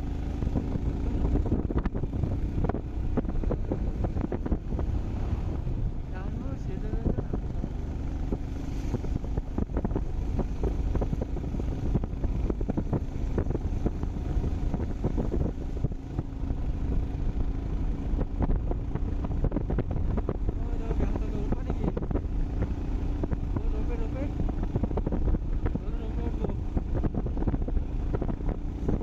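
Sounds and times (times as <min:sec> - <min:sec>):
motorcycle engine hum: 0:00.0 - 0:29.0
wind buffeting microphone: 0:00.0 - 0:29.0.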